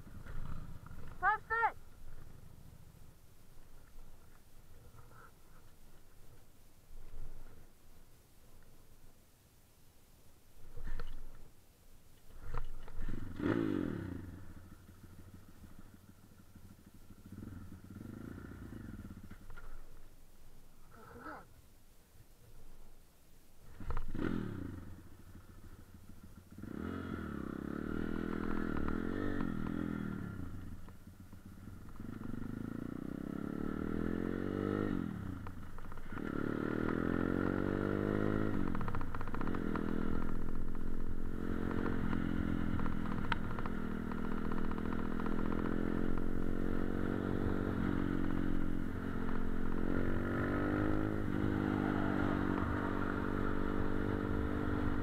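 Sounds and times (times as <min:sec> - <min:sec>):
motorcycle engine accelerating: 0:00.0 - 0:06.2, 0:12.3 - 0:20.1, 0:23.6 - 0:55.0.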